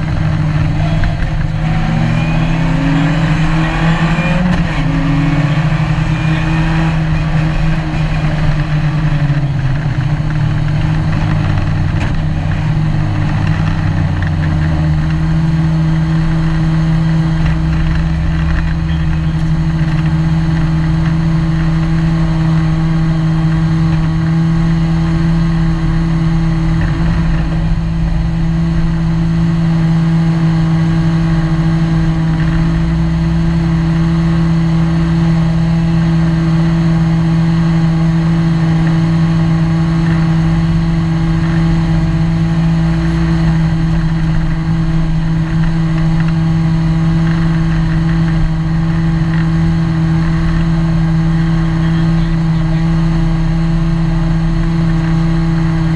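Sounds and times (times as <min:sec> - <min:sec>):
rally car engine droning: 0:00.0 - 0:55.9.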